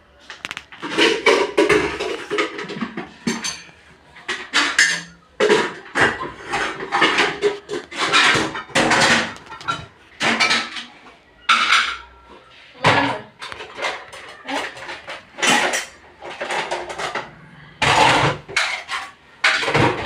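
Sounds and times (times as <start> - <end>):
dishes and pots clattering: 0.4 - 20.0.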